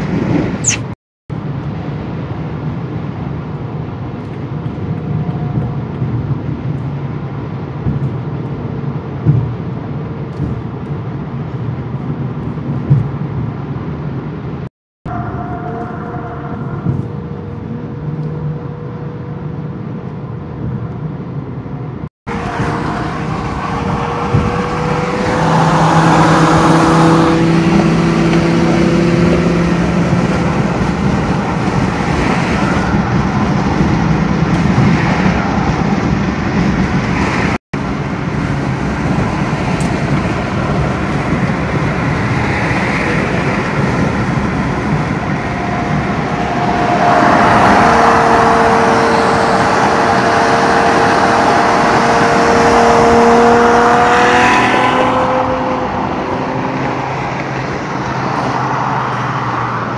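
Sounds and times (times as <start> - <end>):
car engine drone: 0.0 - 59.9
tyre and road roar: 0.0 - 59.9.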